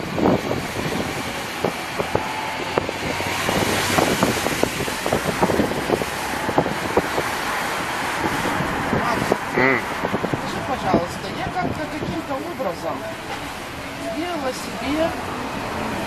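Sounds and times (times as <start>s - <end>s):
road noise inside car: 0.0s - 16.0s.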